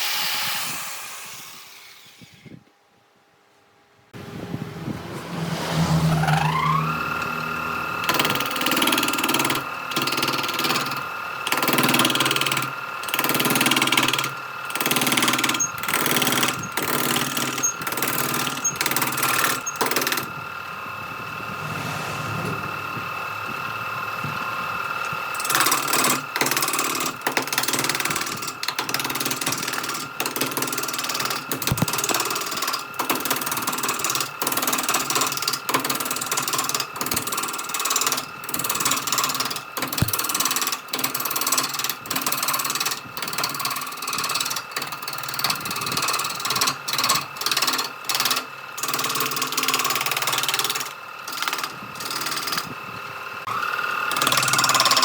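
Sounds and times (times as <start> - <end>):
power tool cutting wood: 0.0 - 2.6, 5.2 - 20.4, 24.8 - 52.7, 53.4 - 55.0
power tool motor whining: 5.7 - 55.0.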